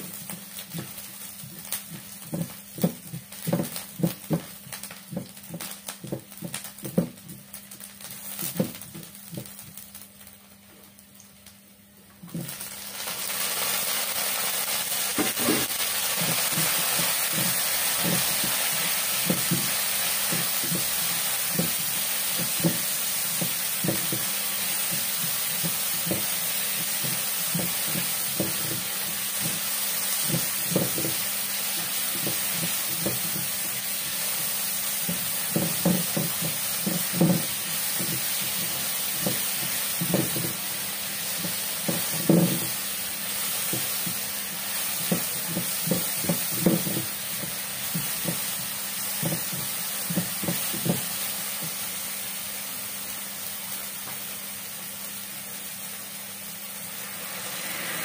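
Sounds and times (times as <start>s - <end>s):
tomatoes sizzling in a frying pan: 0.0s - 58.0s.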